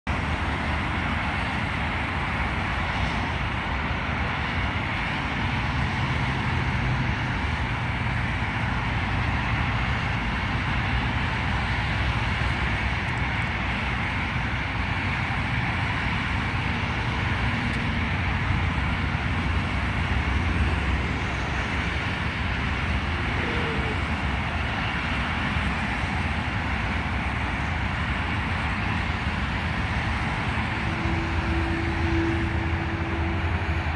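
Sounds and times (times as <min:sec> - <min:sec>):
road traffic hum: 0:00.0 - 0:33.9.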